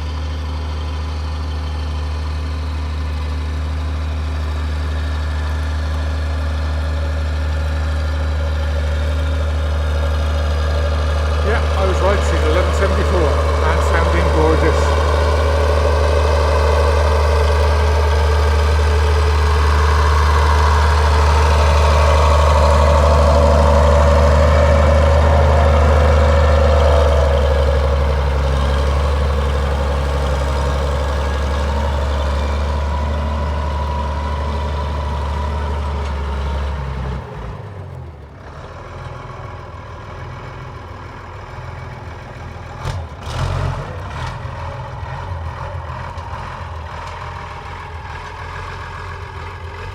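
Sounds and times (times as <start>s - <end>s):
tractor engine working under load: 0.0s - 49.9s.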